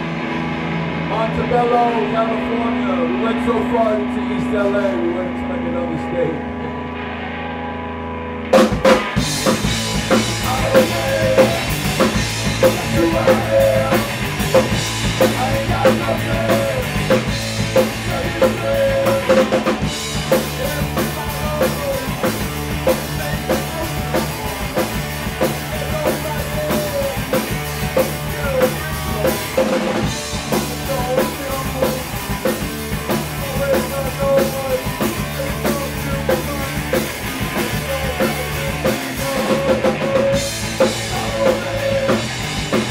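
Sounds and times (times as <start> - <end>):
live rock band playing: 0.0 - 42.9
drum kit beat: 8.5 - 42.9.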